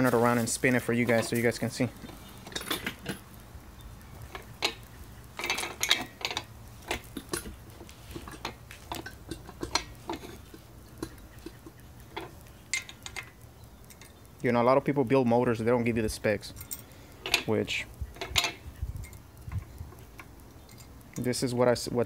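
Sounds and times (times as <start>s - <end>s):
metallic clicks and clinks: 0.0s - 14.5s, 15.8s - 22.0s.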